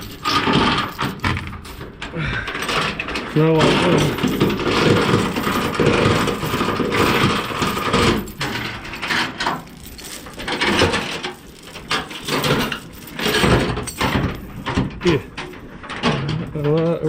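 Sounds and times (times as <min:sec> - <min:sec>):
steel chain rattling against metal: 0:00.0 - 0:17.0.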